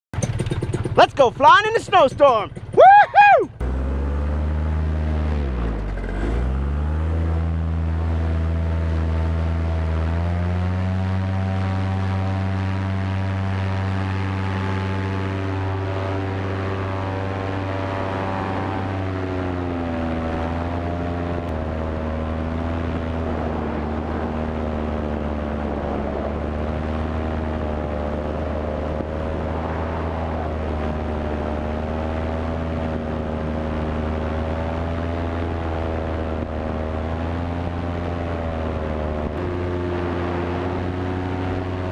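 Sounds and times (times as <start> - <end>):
paramotor engine and propeller: 0.1 - 41.9.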